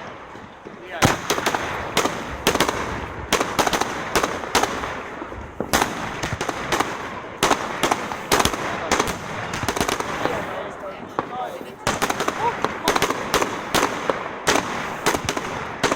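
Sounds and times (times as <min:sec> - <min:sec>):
distant fireworks rumble: 0:00.0 - 0:15.9
fireworks bangs with crackling: 0:00.0 - 0:15.9.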